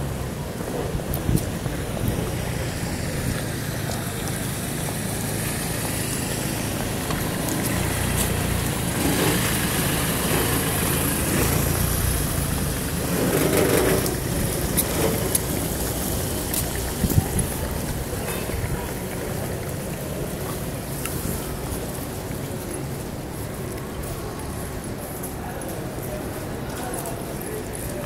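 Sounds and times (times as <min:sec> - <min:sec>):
rain: 0:00.0 - 0:28.0
vehicle engine running: 0:00.0 - 0:28.0
tyre hiss on wet road: 0:00.2 - 0:23.7.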